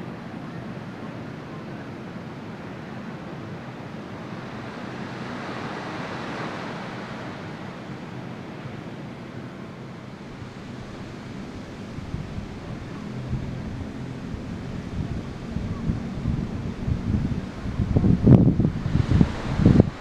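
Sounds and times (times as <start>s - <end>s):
wind buffeting microphone: 2.4s - 20.0s
surf breaking on beach: 2.7s - 20.0s.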